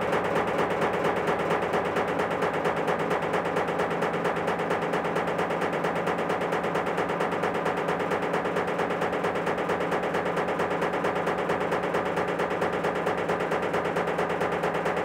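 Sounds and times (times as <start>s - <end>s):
washing machine rhythmic knocking: 0.0s - 15.0s.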